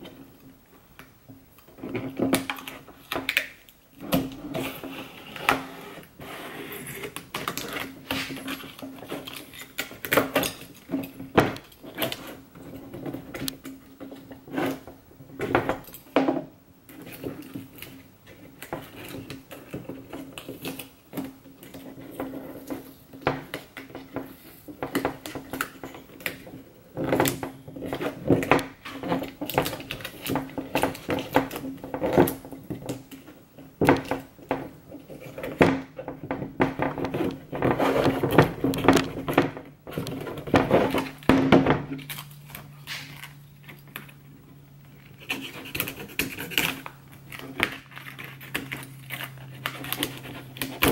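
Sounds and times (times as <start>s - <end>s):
vinyl film rubbing and crinkling: 1.5s - 16.2s, 16.8s - 50.9s.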